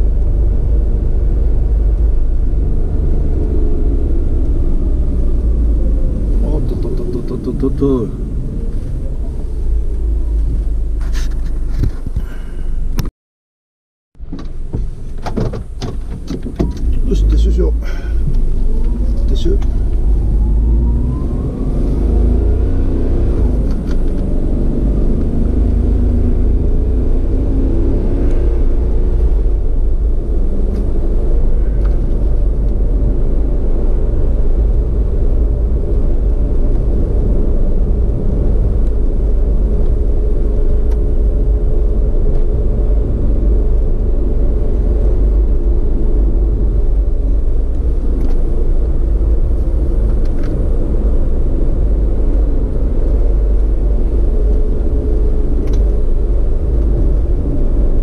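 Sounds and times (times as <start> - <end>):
vehicle engine and road rumble: 0.0 - 13.1, 14.2 - 58.0.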